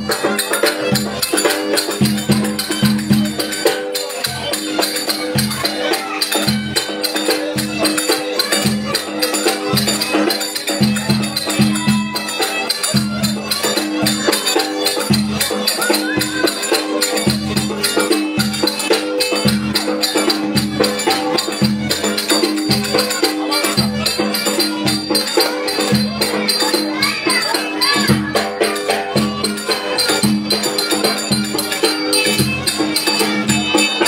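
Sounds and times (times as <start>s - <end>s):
deep drum beats: 0.0s - 34.0s
violin melody: 0.0s - 34.0s.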